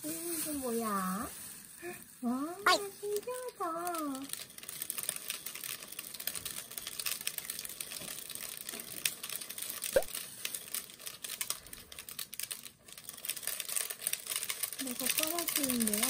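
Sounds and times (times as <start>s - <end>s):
rice pattering in plastic bottle: 0.0s - 16.0s.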